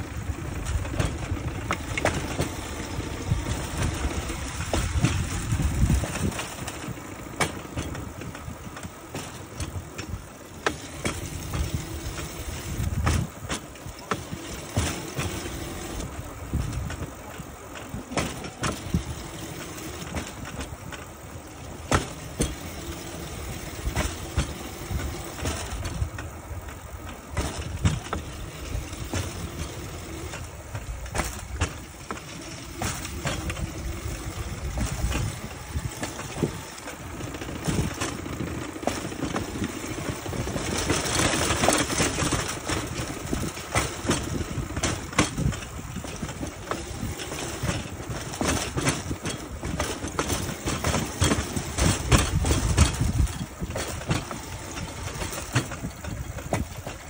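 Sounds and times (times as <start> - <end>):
steel wheels rumbling on rails: 0.0 - 57.0
wheel clicks and knocks: 0.0 - 57.0.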